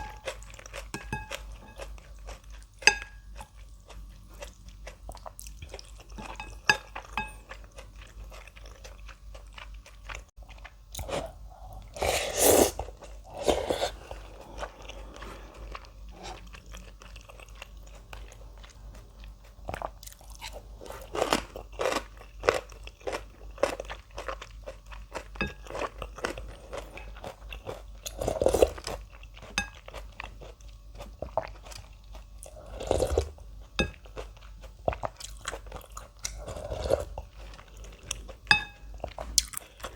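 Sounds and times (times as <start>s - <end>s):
wet chewing and crunching: 0.0s - 12.0s, 12.8s - 39.9s.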